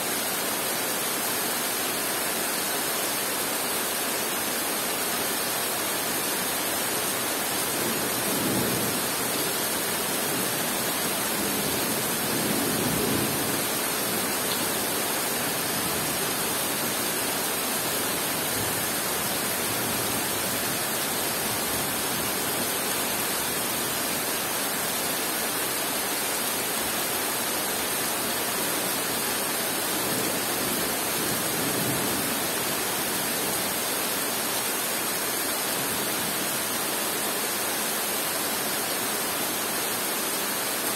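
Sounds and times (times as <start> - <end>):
heavy rain on foliage: 0.0 - 40.9.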